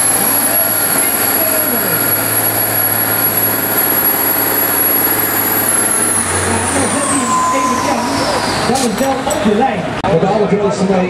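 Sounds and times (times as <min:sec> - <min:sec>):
diesel truck engine roaring: 0:00.0 - 0:11.0.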